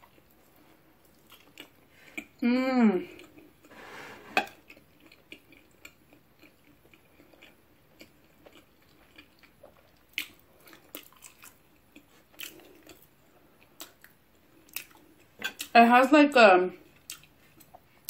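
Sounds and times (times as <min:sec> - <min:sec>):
person chewing with wet smacks: 0:00.0 - 0:02.4, 0:03.1 - 0:03.7, 0:04.4 - 0:15.7, 0:16.8 - 0:18.0.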